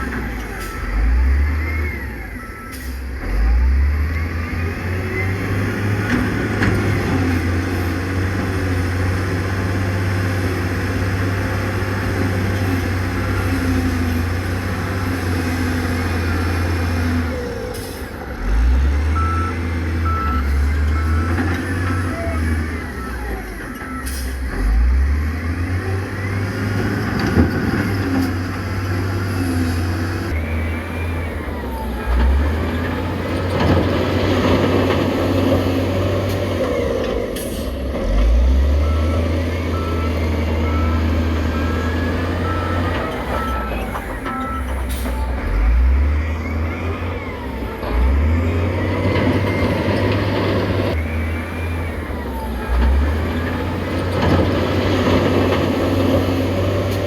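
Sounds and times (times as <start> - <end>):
reversing alarm beeping: 0.0 - 8.3, 11.2 - 56.9
heavy machine diesel engines: 0.0 - 57.0.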